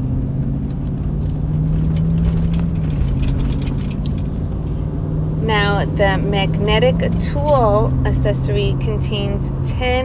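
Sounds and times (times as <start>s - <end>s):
low mechanical drone: 0.0s - 10.0s.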